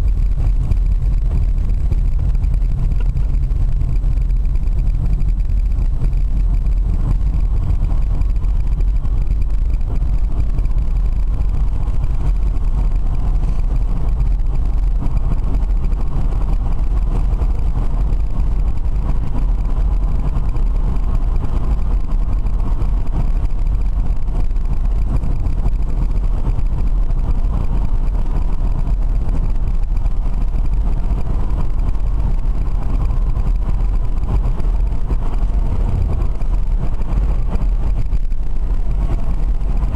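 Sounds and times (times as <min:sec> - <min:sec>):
car cabin road and wind noise: 0:00.0 - 0:39.9.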